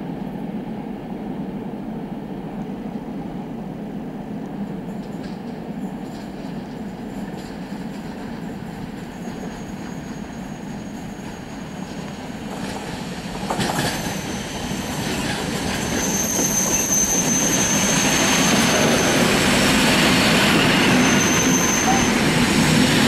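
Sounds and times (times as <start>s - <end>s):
high steady train squeal: 0.0s - 23.0s
train rumble: 0.0s - 23.0s.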